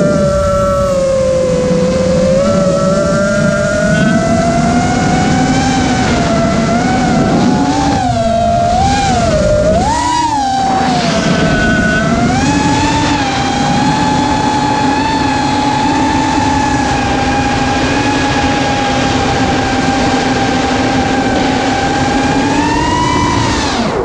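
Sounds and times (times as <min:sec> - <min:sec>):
quadcopter motors whining: 0:00.0 - 0:24.0
rush of air noise: 0:00.0 - 0:24.0.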